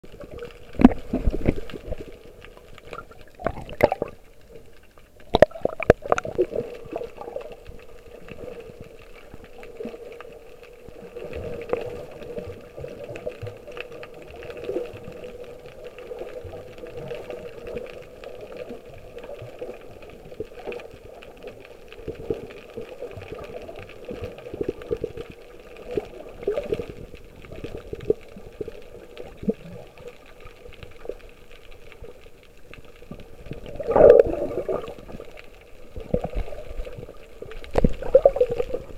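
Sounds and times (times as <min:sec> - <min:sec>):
muffled underwater water churning: 0:00.0 - 0:38.9.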